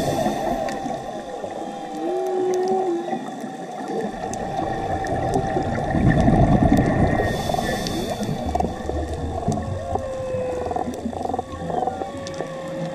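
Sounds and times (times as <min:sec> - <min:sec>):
crackle of reef clicks: 0:00.0 - 0:12.9
scuba regulator bubbling: 0:00.0 - 0:12.9.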